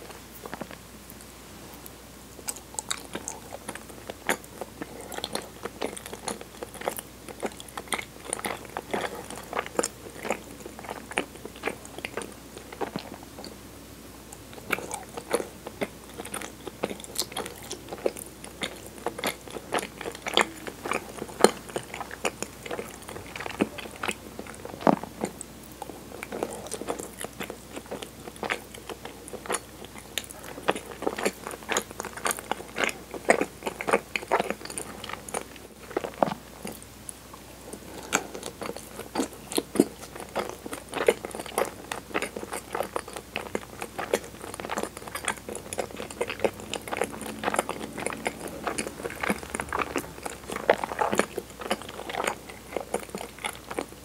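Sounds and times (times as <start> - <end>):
close chewing: 0.0 - 13.6, 14.2 - 54.0.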